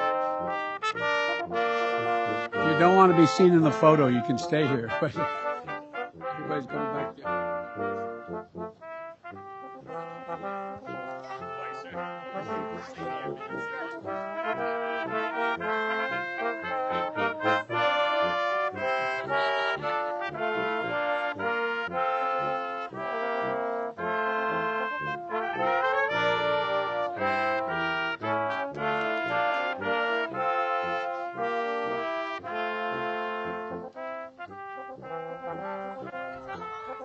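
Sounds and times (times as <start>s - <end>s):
brass ensemble playing: 0.0s - 37.0s.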